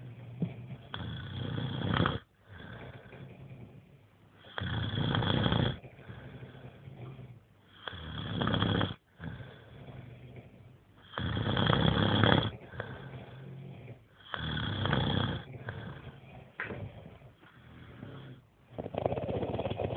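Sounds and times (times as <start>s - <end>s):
men snoring: 0.0s - 3.8s, 4.5s - 19.9s.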